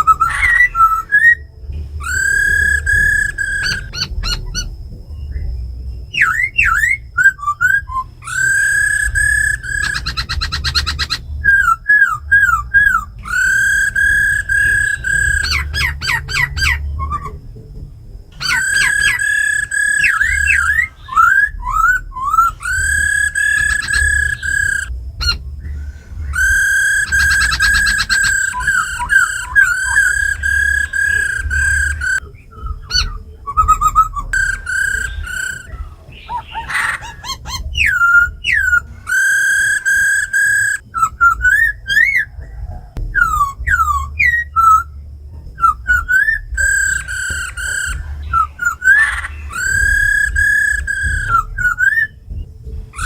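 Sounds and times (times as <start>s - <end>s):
harsh rasping bird call: 0.0s - 4.8s, 6.0s - 17.6s, 18.4s - 45.0s, 45.6s - 53.0s
buzzy bird trill: 0.0s - 53.0s
laughingthrushes whistling: 0.0s - 53.0s
low hum: 0.0s - 53.0s.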